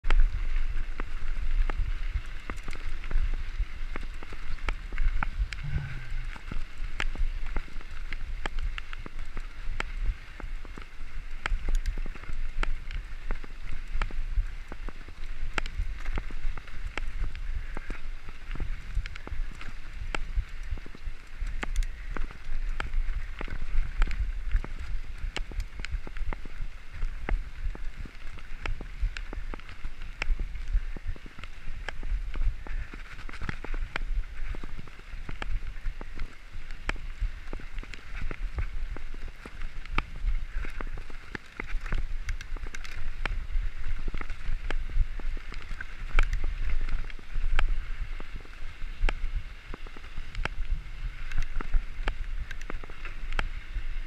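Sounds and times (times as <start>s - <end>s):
wind rumble: 0.0s - 54.0s.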